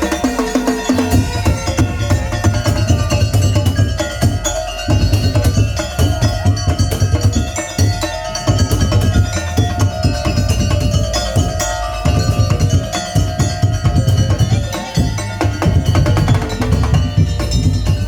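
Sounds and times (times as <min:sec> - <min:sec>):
bass drum beat: 0:00.0 - 0:18.0
festive band music: 0:00.0 - 0:18.0.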